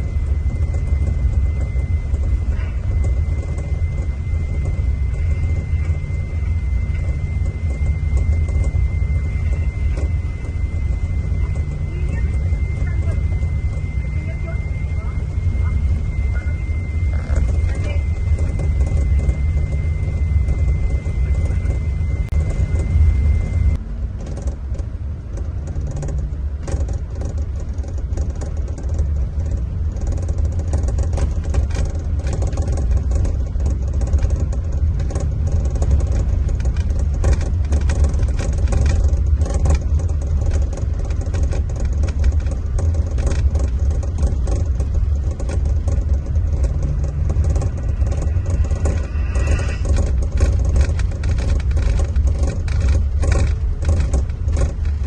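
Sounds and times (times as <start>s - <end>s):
diesel coach engine droning: 0.0s - 55.0s
faint high whine: 0.0s - 55.0s
small rattles and clicks: 0.0s - 55.0s.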